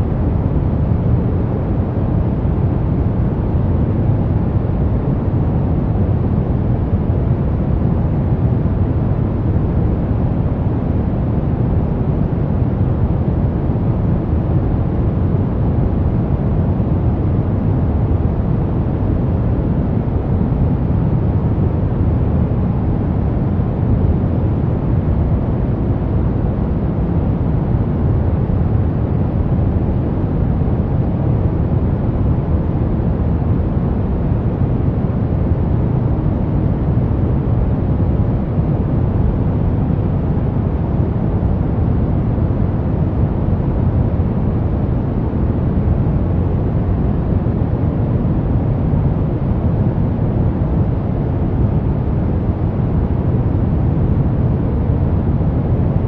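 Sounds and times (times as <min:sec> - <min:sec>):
brown noise: 0:00.0 - 0:56.0.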